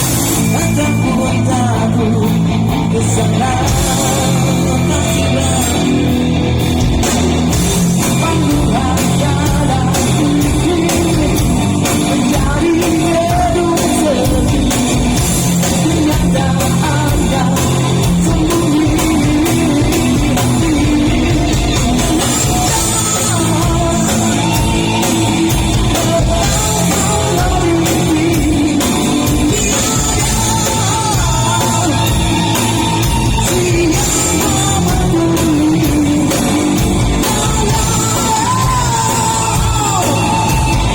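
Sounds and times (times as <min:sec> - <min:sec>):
man singing rock song: 0:00.0 - 0:40.9
rock band playing: 0:00.0 - 0:40.9
steady drum beat: 0:00.0 - 0:40.9.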